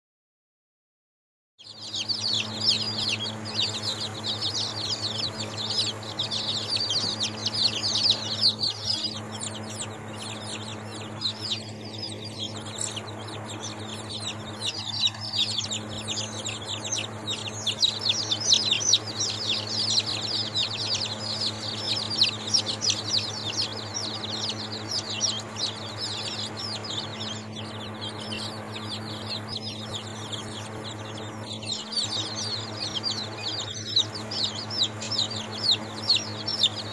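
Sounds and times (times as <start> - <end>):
baby chicks peeping: 1.6 - 36.9
steady low hum: 1.6 - 36.9.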